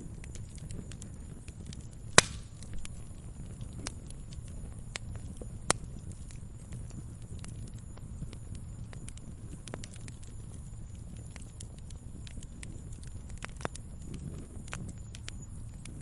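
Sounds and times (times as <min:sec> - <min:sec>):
campfire crackling: 0:00.0 - 0:16.0
sharp fire pops: 0:00.0 - 0:16.0
steady low rumble: 0:00.0 - 0:16.0.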